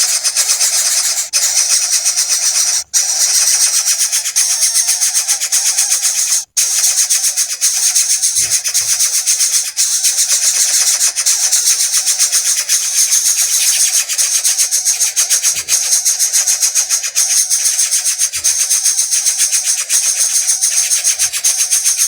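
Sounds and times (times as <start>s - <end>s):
nestlings cheeping: 0.0s - 22.0s.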